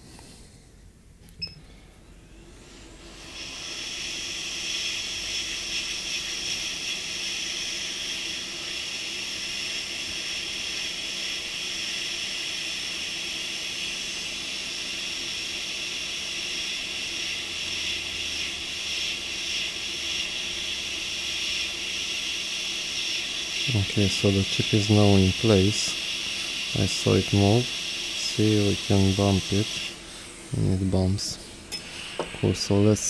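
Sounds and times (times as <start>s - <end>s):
hot air blower hissing: 0.0s - 0.7s, 1.9s - 33.0s.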